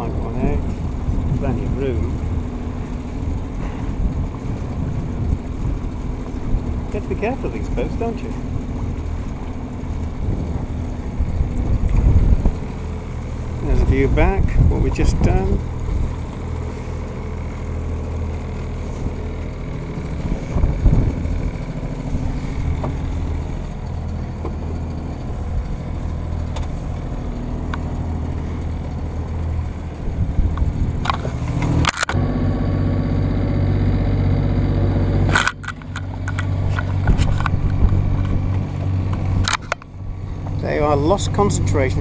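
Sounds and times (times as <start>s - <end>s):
boat engine droning: 0.0s - 42.0s
water noise: 0.0s - 42.0s
wind: 0.0s - 42.0s.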